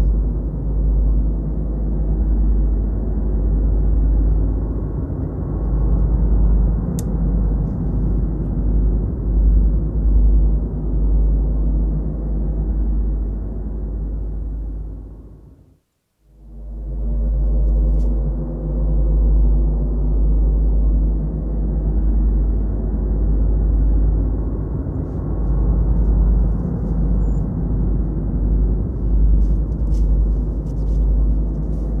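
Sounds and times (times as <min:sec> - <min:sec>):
low steady drone: 0:00.0 - 0:32.0.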